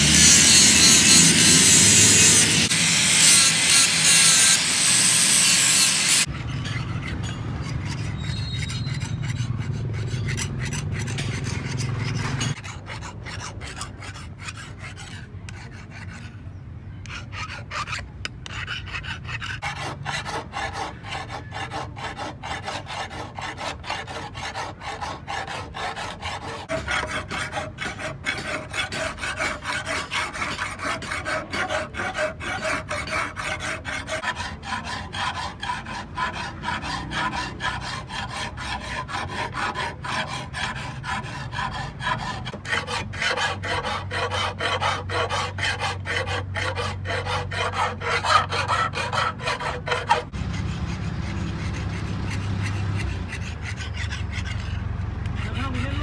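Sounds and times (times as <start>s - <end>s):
file rasping on metal blade: 0.0s - 56.0s.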